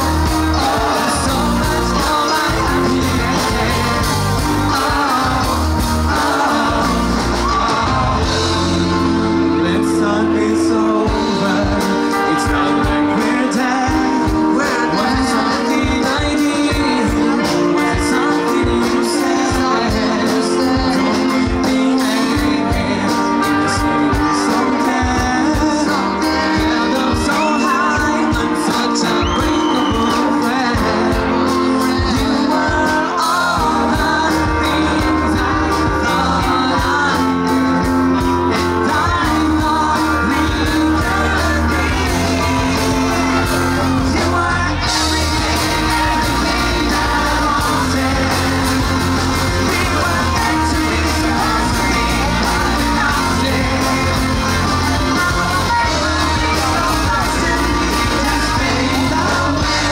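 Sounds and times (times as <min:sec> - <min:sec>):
heavy bass: 0:00.0 - 0:59.9
live rock band playing: 0:00.0 - 0:59.9
person singing lead vocals: 0:00.0 - 0:59.9.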